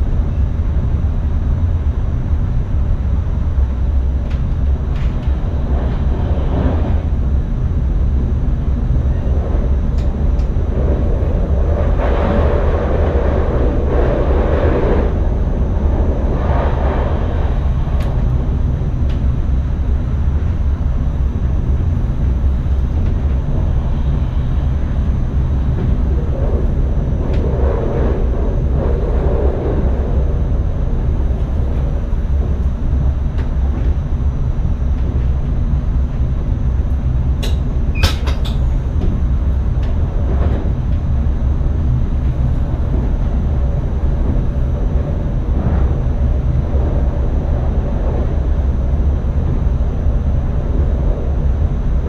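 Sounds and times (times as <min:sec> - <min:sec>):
train cab rumble: 0:00.0 - 0:52.0.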